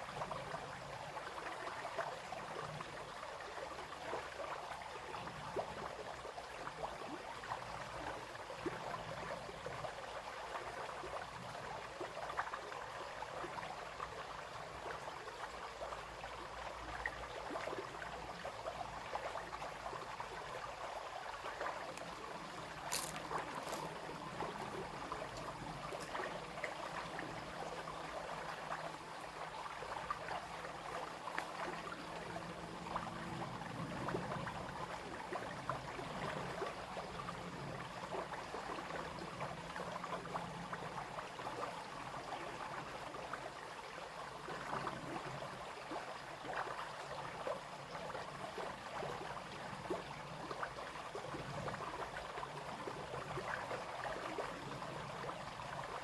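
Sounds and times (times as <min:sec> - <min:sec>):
brook babbling over stones: 0:00.0 - 0:56.0.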